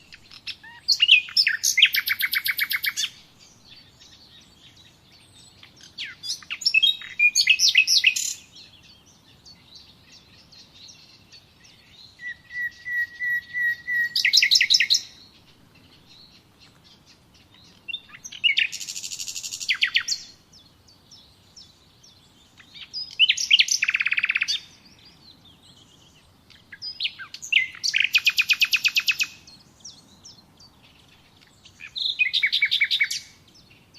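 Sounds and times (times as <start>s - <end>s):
songbird trilling: 0.0s - 33.9s.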